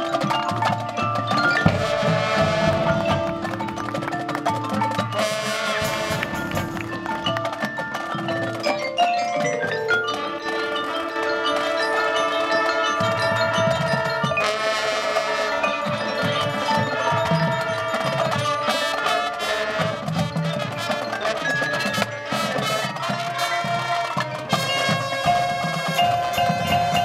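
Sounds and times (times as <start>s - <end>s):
mallet percussion quick notes: 0.0s - 27.0s
marching band playing: 0.0s - 27.0s.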